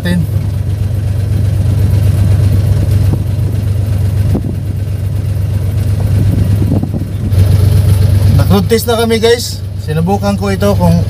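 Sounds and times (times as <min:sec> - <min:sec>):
engine drone inside cab: 0:00.0 - 0:11.0.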